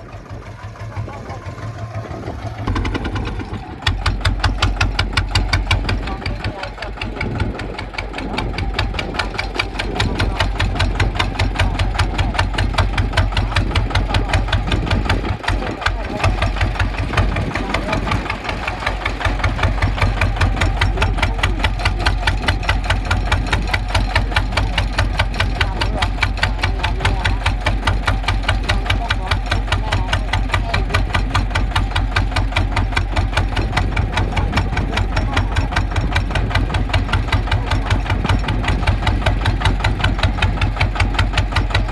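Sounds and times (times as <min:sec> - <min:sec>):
diesel engine thudding: 0:00.0 - 0:41.9.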